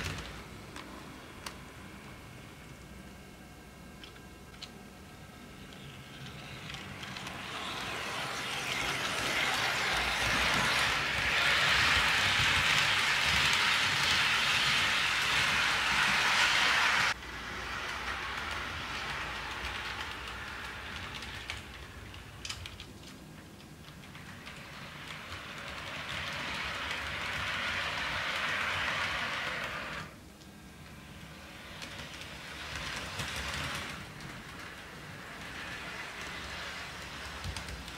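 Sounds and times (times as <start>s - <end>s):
model train rolling on track: 0.0s - 3.1s, 4.0s - 37.9s.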